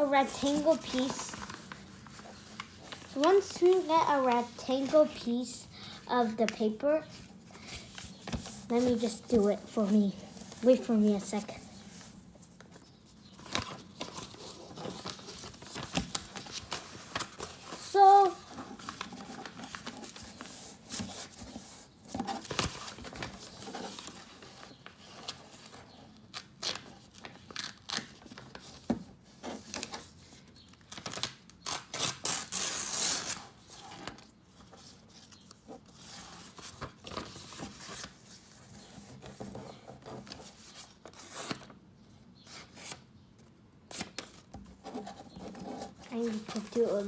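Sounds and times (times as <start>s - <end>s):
paper rustling and creasing: 0.0s - 41.8s, 43.9s - 47.0s.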